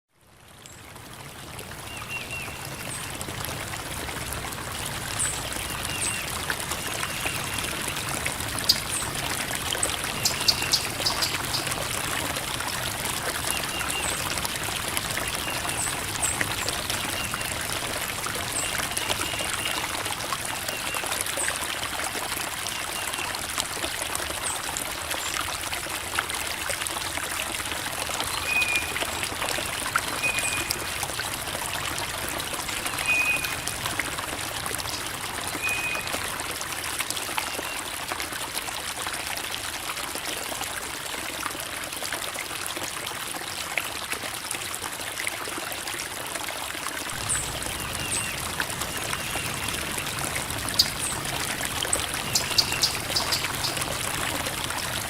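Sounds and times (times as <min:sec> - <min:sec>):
creek water babbling over rocks: 0:00.2 - 0:55.0.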